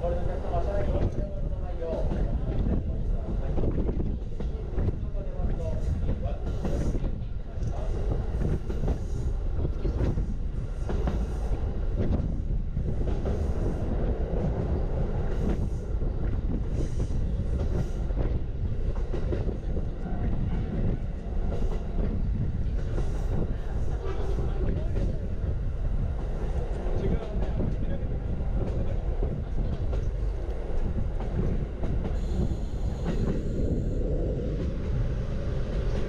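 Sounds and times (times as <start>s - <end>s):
train wheels rumbling on rails: 0.0s - 36.0s
track clacks: 0.1s - 36.0s.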